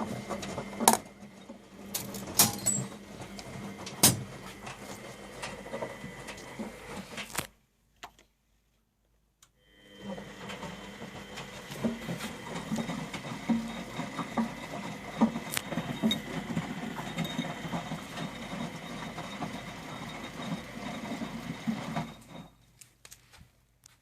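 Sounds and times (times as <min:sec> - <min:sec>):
washing machine rattling: 0:00.0 - 0:07.3, 0:10.0 - 0:22.6.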